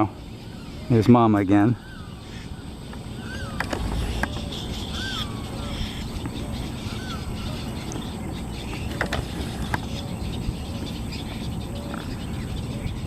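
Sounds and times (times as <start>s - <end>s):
faint bird chirps: 0.0s - 13.0s
low wind rumble: 0.0s - 13.0s.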